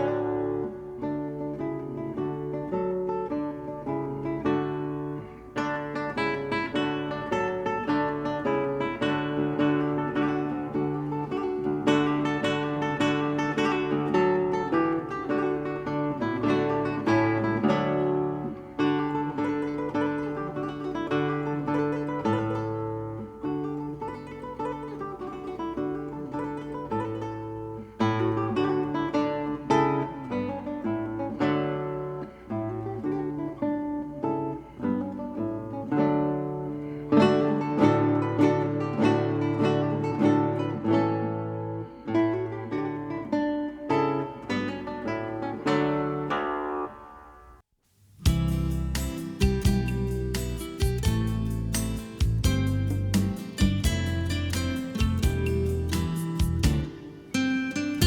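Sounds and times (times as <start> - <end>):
acoustic guitar playing: 0.0 - 58.0.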